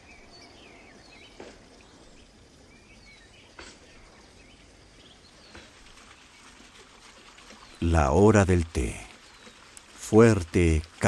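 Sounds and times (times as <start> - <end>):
birds chirping faintly: 0.0 - 11.0
steady outdoor hiss: 0.0 - 11.0.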